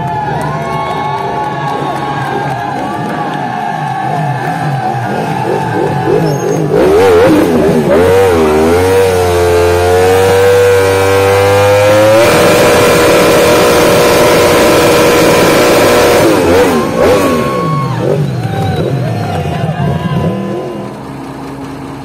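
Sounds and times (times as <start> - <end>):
motorcycle engine revving hard: 1.4 - 19.4.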